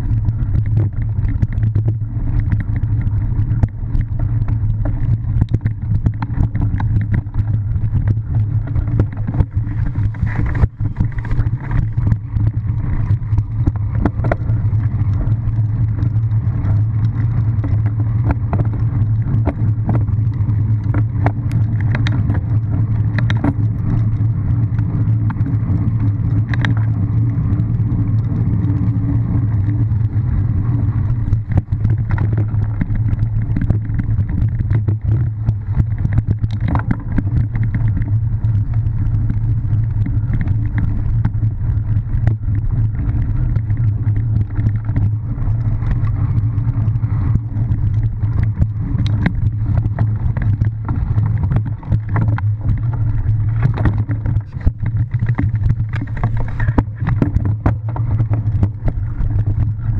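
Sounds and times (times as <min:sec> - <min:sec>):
bike knocks and rattles: 0:00.0 - 0:59.9
low rumble: 0:00.0 - 0:59.9.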